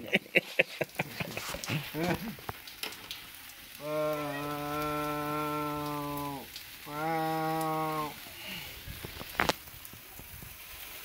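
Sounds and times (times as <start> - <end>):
sparklers crackling: 0.2 - 11.0.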